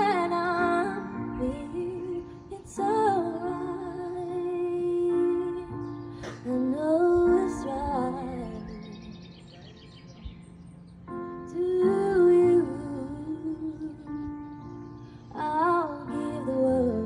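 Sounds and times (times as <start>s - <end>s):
woman singing a slow song: 0.0s - 9.3s, 11.4s - 17.0s.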